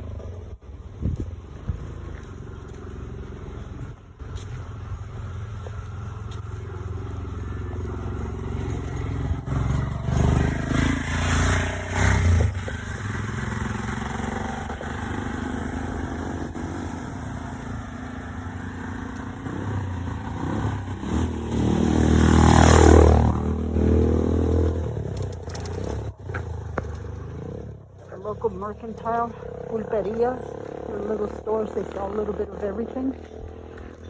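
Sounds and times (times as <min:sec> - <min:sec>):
motorbike passing close: 0:00.0 - 0:34.0
small motorcycle engine running: 0:00.0 - 0:34.0.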